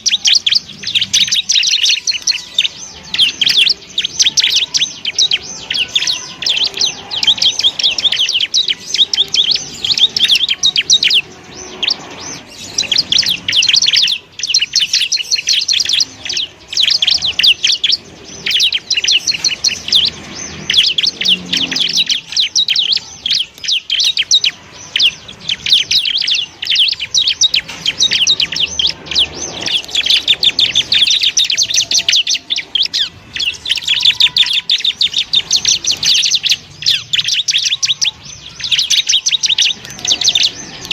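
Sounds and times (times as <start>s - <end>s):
bird singing rapid chirps: 0.0s - 40.9s.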